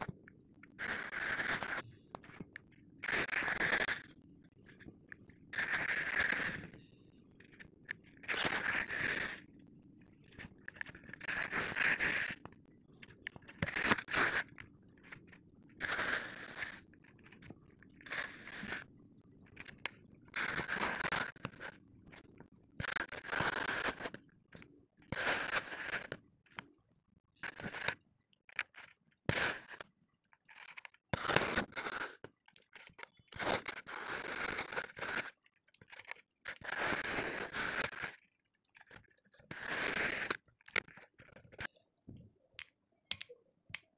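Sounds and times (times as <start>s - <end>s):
small crackles: 0.0s - 43.9s.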